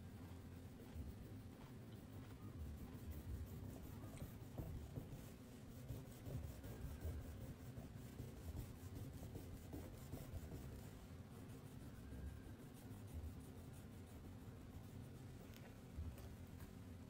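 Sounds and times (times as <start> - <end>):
pen scratching on paper: 0.2 - 14.8.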